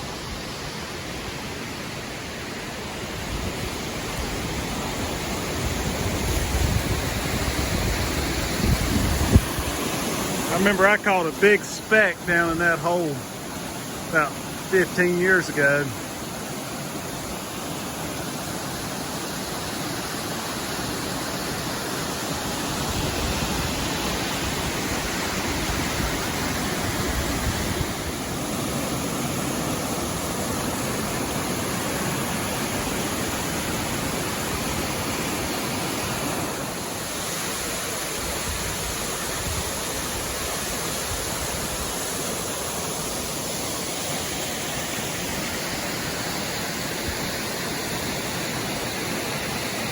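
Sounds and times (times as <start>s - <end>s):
waterfall rushing into pool: 0.0s - 49.9s.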